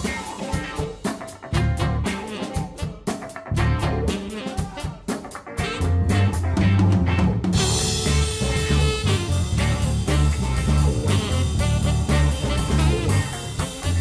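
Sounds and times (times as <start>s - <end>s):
upbeat band music: 0.0s - 14.0s.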